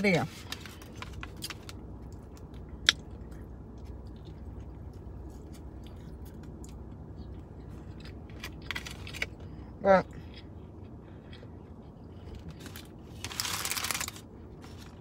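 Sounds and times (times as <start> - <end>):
low steady hum: 0.0 - 15.0
person chewing crunchy food: 0.5 - 15.0.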